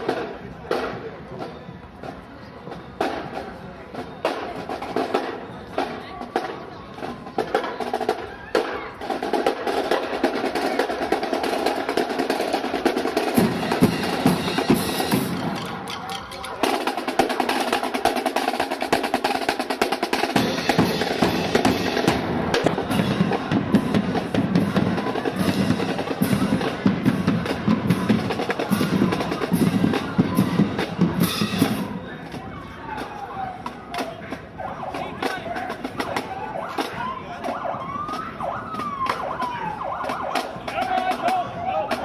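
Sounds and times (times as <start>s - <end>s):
snare drum strokes and rolls: 0.0s - 42.0s.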